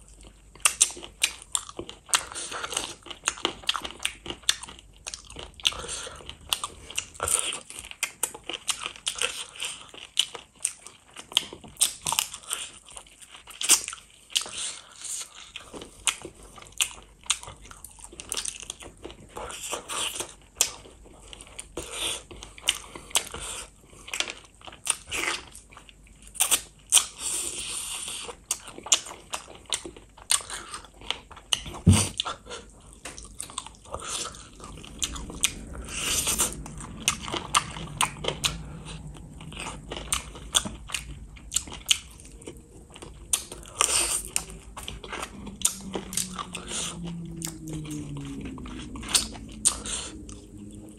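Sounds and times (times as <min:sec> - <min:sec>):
chewing and crunching: 0:00.0 - 0:50.9.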